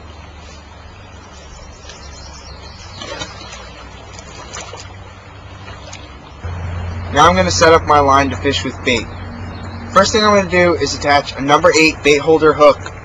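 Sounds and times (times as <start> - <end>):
stream running water: 0.0 - 13.0.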